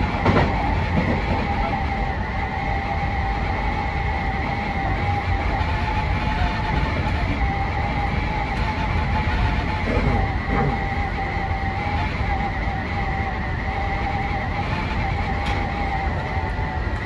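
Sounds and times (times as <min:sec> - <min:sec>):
electric train whine: 0:00.0 - 0:17.0
train wheels rumbling on rail: 0:00.0 - 0:17.0.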